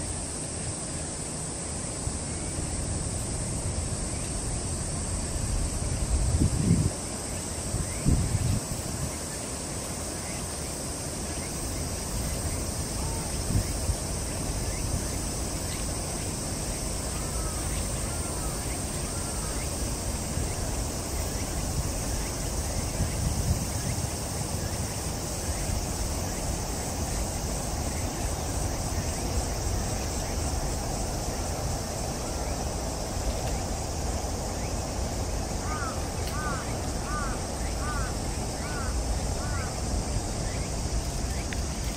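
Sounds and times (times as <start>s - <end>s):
high hiss: 0.0s - 41.9s
wind on microphone: 2.1s - 10.2s, 11.2s - 41.9s.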